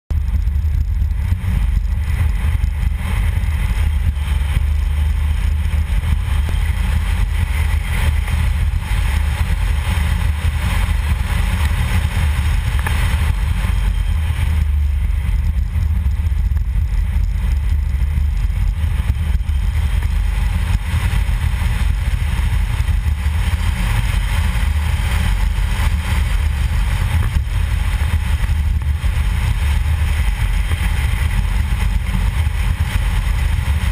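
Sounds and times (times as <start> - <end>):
road and wind noise: 0.1 - 33.9.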